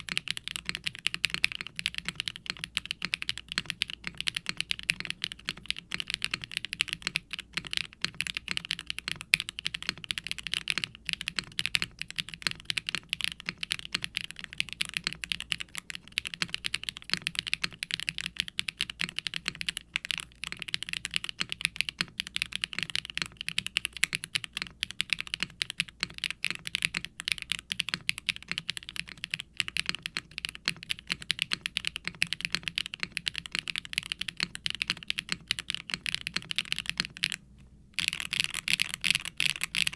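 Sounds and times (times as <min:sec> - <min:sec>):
clacky mechanical keyboard typing: 0:00.0 - 0:37.4, 0:38.0 - 0:39.9.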